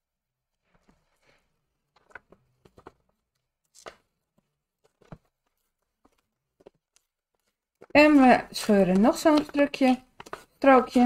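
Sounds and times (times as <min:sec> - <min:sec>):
paper rustling and crinkling: 0:00.6 - 0:11.0.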